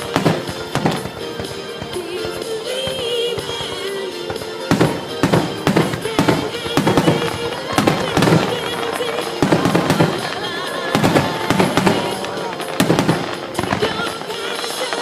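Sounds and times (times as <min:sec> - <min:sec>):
fireworks bursting: 0:00.0 - 0:15.0
music playing: 0:00.0 - 0:15.0.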